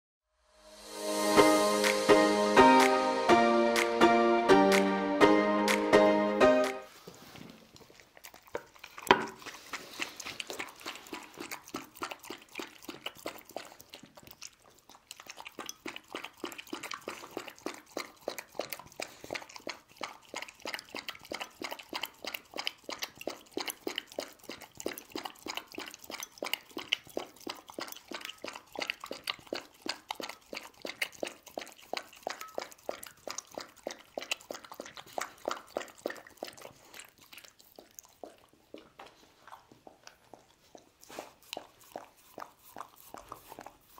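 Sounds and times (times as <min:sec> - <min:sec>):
dog lapping from a bowl: 0:07.2 - 0:43.9.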